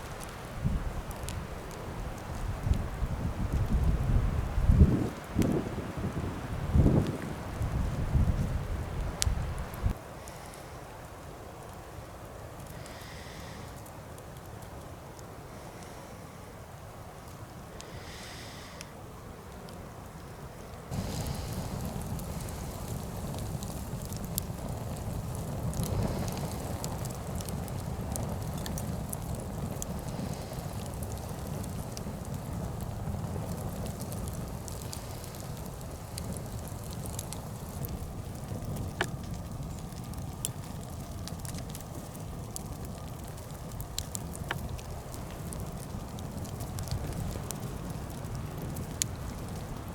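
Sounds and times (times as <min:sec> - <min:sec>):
log fire rushing flame: 0:00.0 - 0:49.9
wood crackling and popping: 0:00.0 - 0:49.9.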